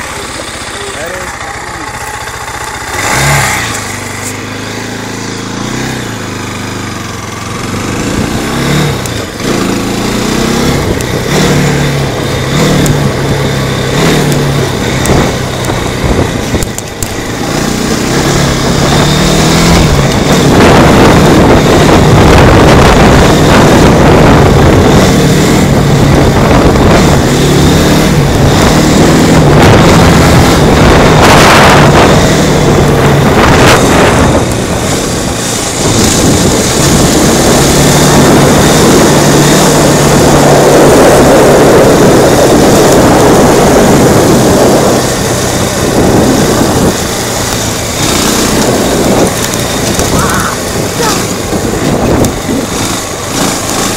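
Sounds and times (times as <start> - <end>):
quad bike engine revving: 0.0 - 53.9
wind buffeting microphone: 7.1 - 53.9.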